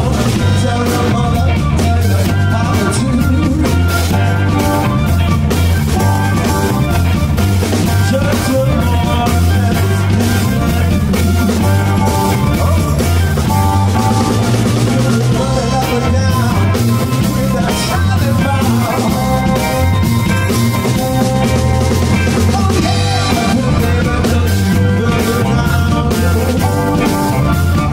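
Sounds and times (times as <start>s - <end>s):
drum kit: 0.0s - 27.9s
electric guitar: 0.0s - 27.9s
amplified harmonica: 2.6s - 27.9s.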